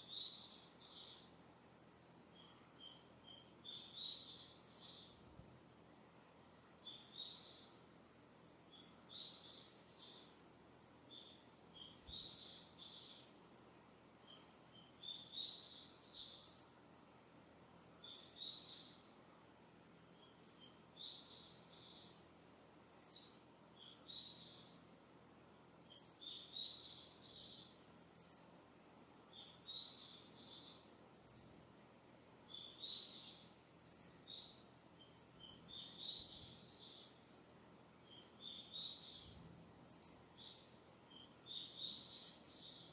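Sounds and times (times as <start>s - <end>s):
distant songbirds twittering: 0.0s - 13.5s, 14.1s - 17.0s, 17.8s - 42.9s
faint breeze hiss: 0.0s - 42.9s.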